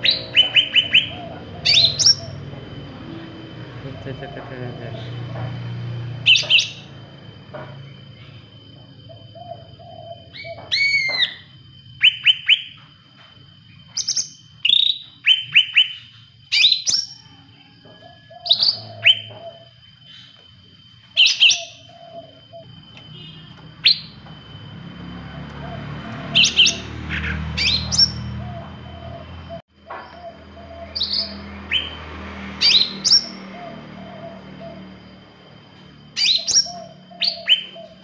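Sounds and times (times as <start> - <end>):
songbird chirping and warbling: 0.0 - 12.9, 13.7 - 38.0.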